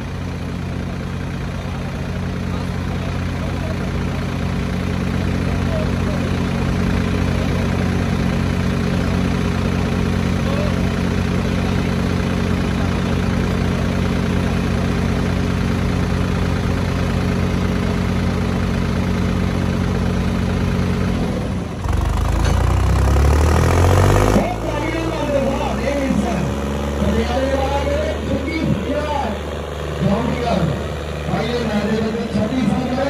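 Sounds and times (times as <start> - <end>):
tractor engines running under load: 0.0 - 33.0.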